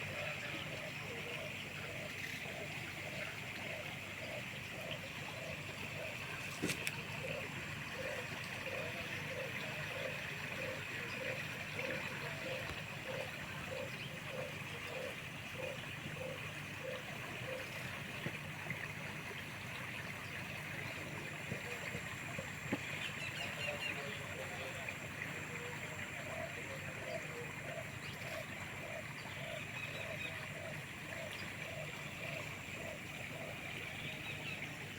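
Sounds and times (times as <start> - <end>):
river water running: 0.0 - 34.9.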